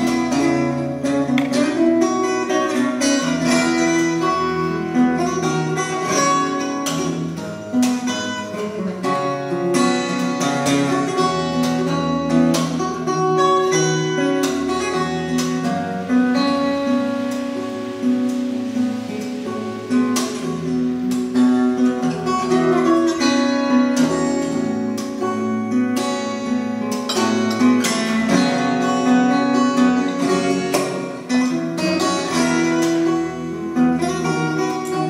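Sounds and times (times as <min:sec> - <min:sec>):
fingerstyle acoustic guitar: 0:00.0 - 0:35.0.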